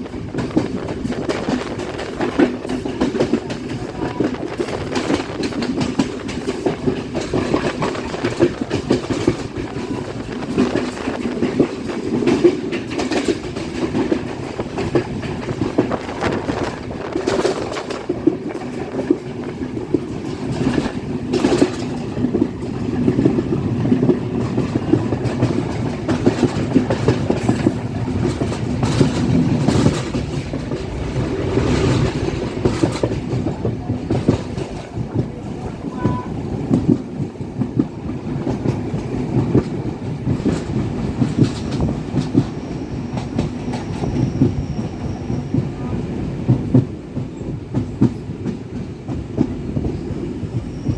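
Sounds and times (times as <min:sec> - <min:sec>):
train wheels rumbling on rail: 0:00.0 - 0:50.9
wheels clacking over rail joints: 0:00.0 - 0:50.9.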